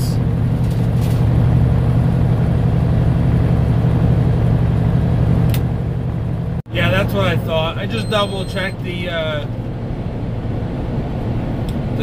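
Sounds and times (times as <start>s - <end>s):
truck diesel engine and road noise: 0.0s - 12.0s.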